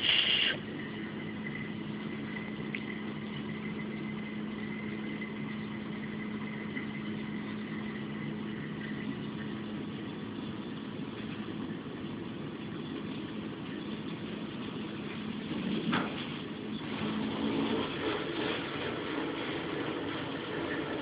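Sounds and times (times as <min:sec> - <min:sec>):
faint high whine: 0:00.0 - 0:21.0
machine humming: 0:00.0 - 0:21.0.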